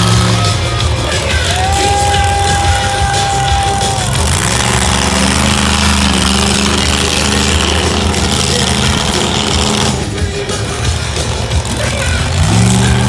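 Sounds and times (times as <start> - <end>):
monster truck engine roaring: 0.0 - 13.0.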